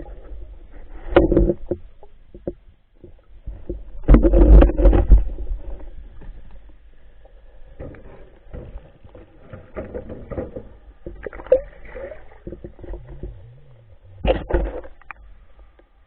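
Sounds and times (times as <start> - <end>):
muffled water sloshing: 0.0 - 16.0.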